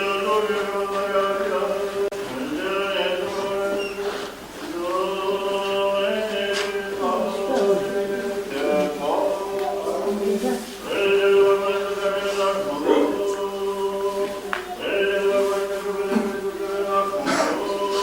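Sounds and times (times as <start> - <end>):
choir chanting: 0.0 - 4.1, 4.7 - 18.0.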